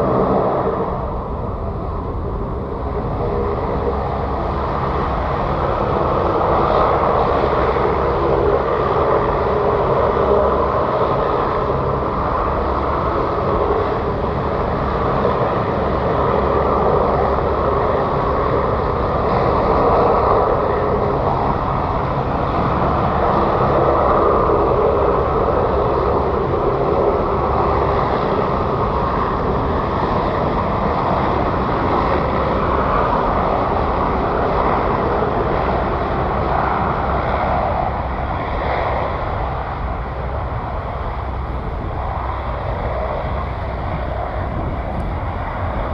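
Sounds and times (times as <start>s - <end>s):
aircraft engines running: 0.0s - 45.9s.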